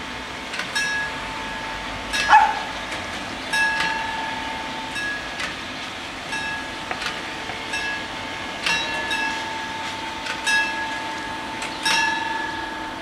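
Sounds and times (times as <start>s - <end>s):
level crossing bells ringing: 0.8s - 2.9s, 3.5s - 5.5s, 6.2s - 13.0s.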